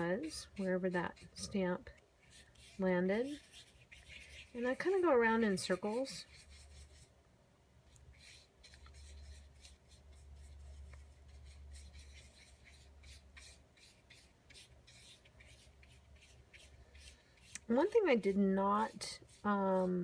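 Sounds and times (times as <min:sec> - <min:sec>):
soft brush scratchy strokes: 0:00.0 - 0:07.2, 0:07.8 - 0:20.0
low steady hum: 0:00.0 - 0:20.0.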